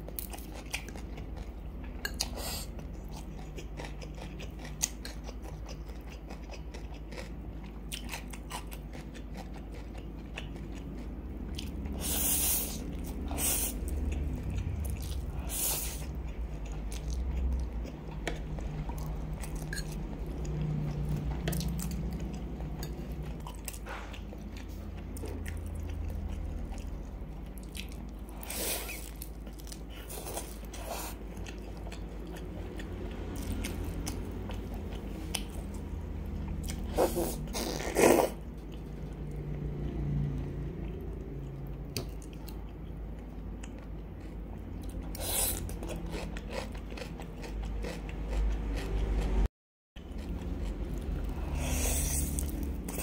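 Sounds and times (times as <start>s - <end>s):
person chewing noodles: 0.0s - 40.0s, 40.6s - 53.0s
low steady hum: 0.0s - 53.0s.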